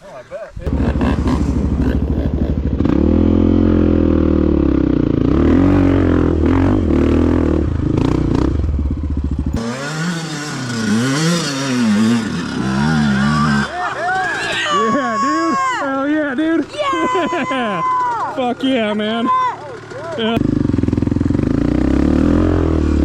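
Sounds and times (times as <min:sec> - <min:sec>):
dirt bike engine revving: 0:00.6 - 0:23.0.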